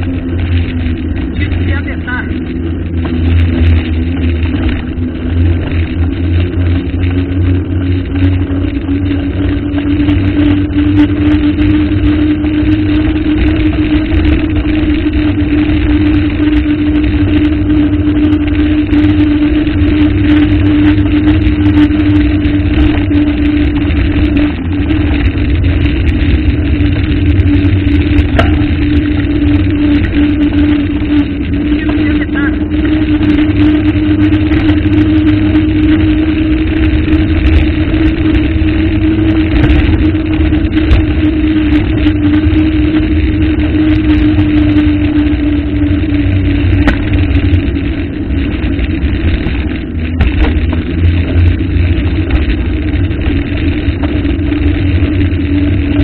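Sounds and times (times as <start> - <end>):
vehicle engine deep rumble: 0.0 - 56.0.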